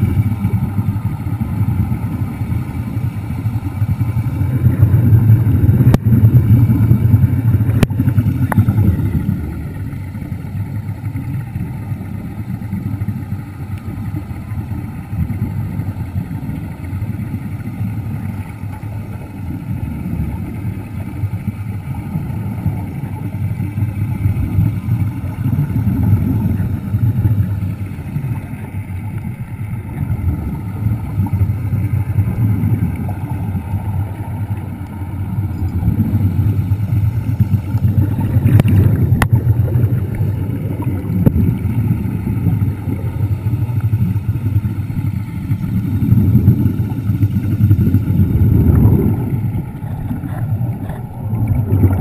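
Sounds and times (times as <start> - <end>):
underwater scooter rumble: 0.0 - 52.0.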